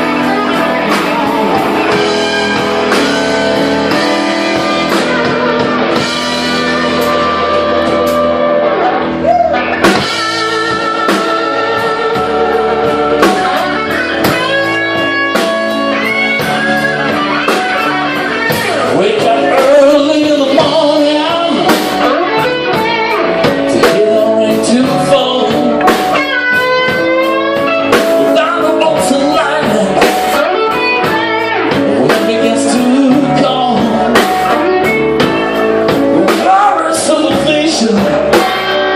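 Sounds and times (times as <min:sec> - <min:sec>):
blues band playing live: 0:00.0 - 0:38.9
lead guitar bending notes: 0:00.0 - 0:38.9.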